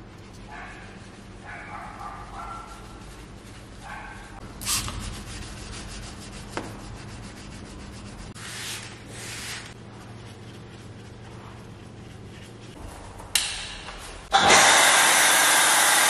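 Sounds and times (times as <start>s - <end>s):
clay bar scraping car paint: 0.2s - 13.4s.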